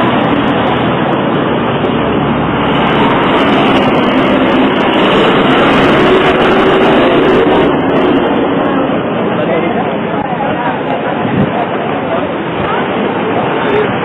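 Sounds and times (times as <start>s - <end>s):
bus passing: 0.0s - 14.0s
city street traffic: 0.0s - 14.0s.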